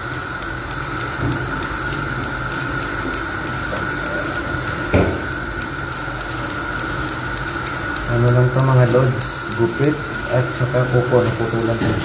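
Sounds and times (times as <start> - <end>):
fast even ticking: 0.0 - 11.8
machine hum: 0.0 - 12.0.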